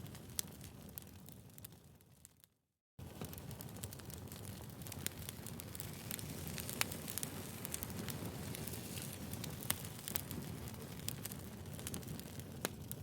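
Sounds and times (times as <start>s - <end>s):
wood fire crackling: 0.0s - 2.4s, 3.0s - 13.0s.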